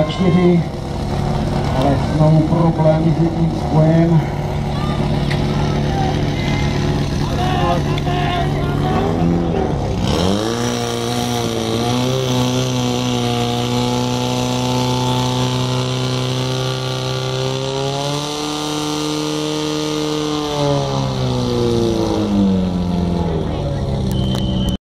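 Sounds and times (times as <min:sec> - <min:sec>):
pump engine running at high revs: 0:00.0 - 0:24.8.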